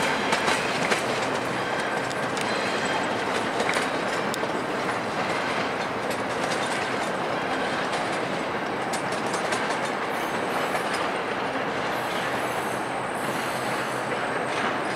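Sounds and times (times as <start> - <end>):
train rolling rumble: 0.0 - 14.9
train wheels clattering over rail joints: 0.0 - 14.9.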